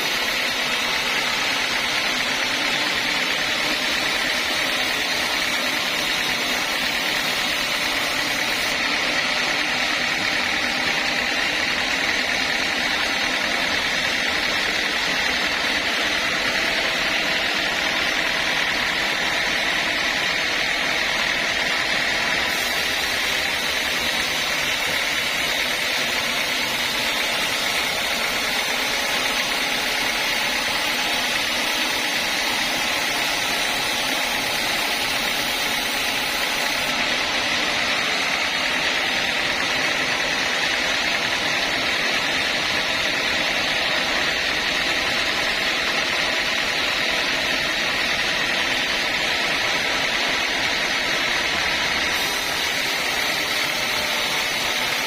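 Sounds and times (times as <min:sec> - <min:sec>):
sawmill saw whining: 0:00.0 - 0:55.0.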